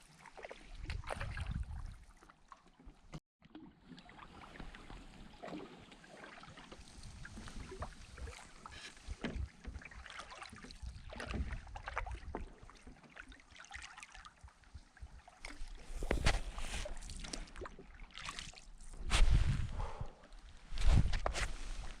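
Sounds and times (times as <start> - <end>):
paddle splashes: 0.0 - 22.0.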